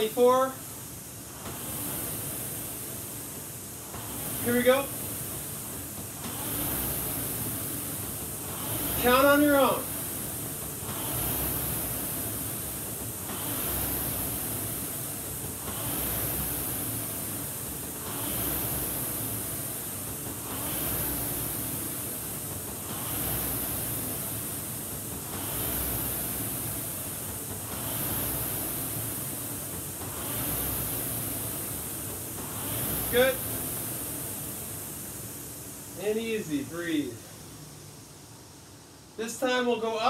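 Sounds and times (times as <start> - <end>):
rowing machine flywheel whooshing: 0.0 - 40.0.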